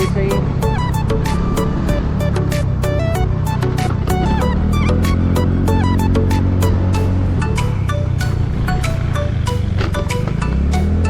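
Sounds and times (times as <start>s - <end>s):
background music with beat and bass: 0.0s - 11.0s.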